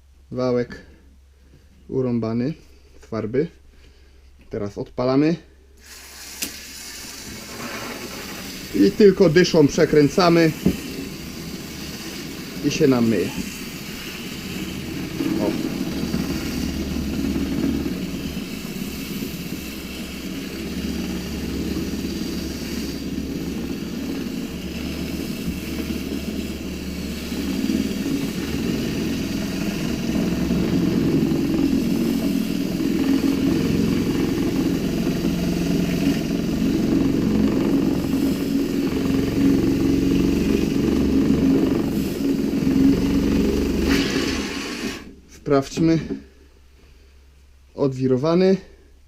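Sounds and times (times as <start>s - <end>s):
water spraying: 5.8s - 45.2s
paint roller whirring: 5.9s - 45.2s.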